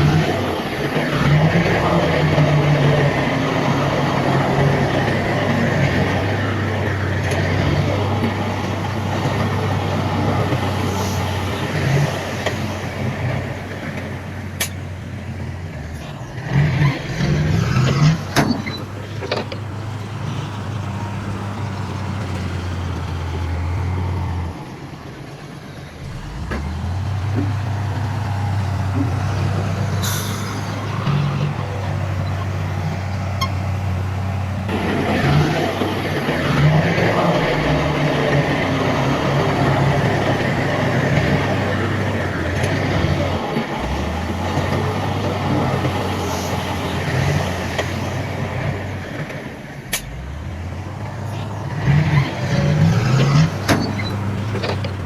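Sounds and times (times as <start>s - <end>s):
diesel earthmoving machinery: 0.0s - 55.0s.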